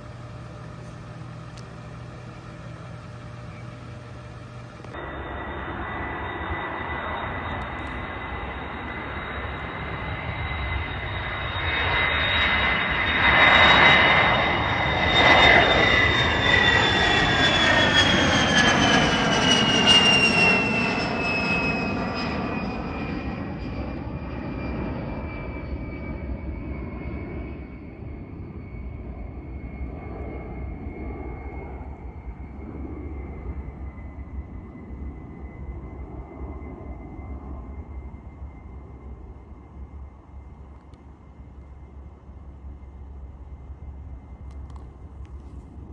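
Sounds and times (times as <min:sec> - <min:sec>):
aircraft engine whine: 0:00.0 - 0:45.9.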